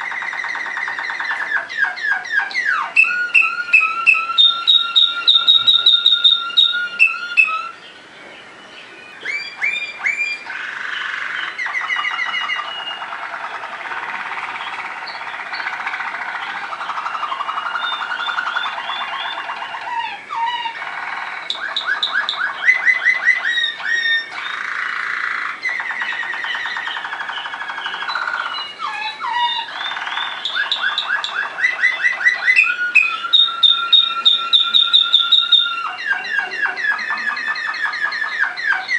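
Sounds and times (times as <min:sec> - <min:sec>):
canary singing trills and whistles: 0:00.0 - 0:38.9.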